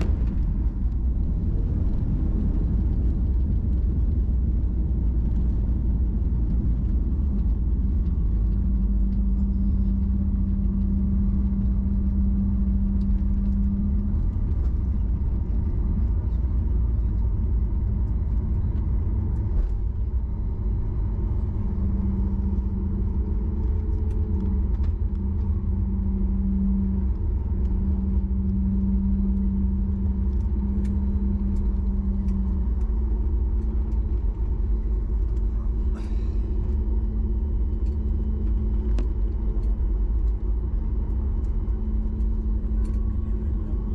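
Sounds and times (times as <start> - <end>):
airliner cabin rumble: 0.0 - 43.9
low hum: 0.0 - 43.9.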